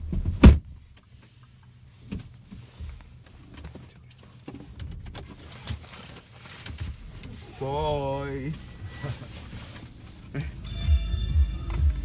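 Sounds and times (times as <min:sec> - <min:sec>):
low car cabin rumble: 0:00.0 - 0:12.0.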